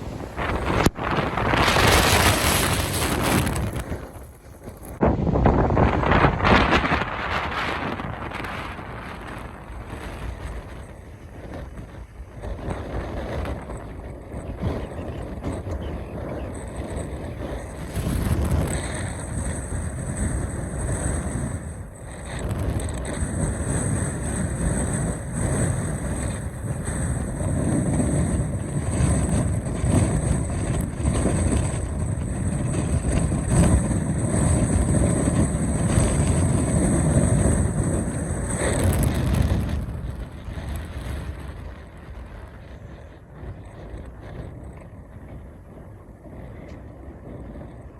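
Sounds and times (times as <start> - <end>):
strong gusting wind on microphone: 0.0 - 47.9.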